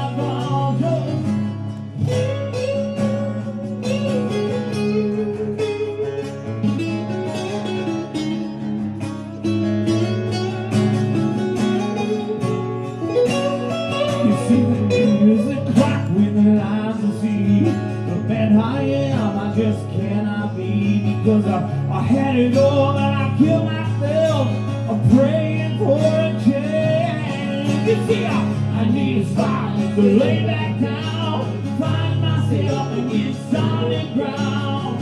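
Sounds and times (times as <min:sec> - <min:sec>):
acoustic guitar lead melody: 0:00.0 - 0:35.0
acoustic guitar strumming: 0:00.0 - 0:35.0.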